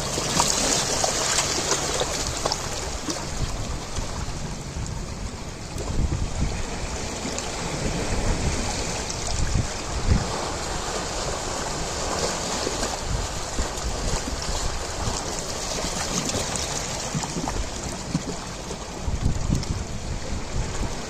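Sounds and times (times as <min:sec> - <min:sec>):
ocean waves washing on shore: 0:00.0 - 0:21.0.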